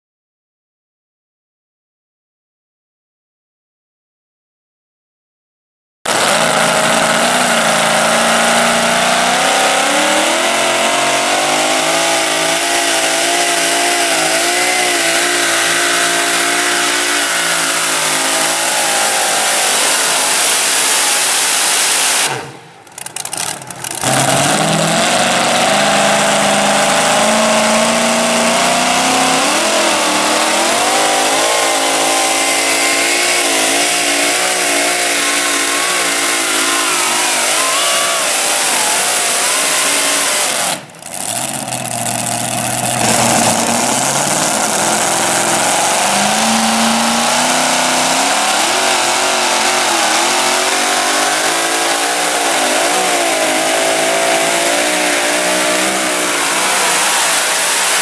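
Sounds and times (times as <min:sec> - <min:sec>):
supercharged truck engines at full throttle: 0:06.1 - 0:58.0.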